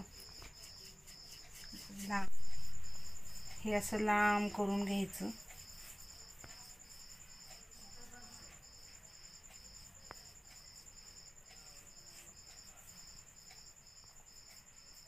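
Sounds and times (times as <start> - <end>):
continuous insect trill: 0.0 - 15.0
pulsed insect chirp: 0.0 - 15.0.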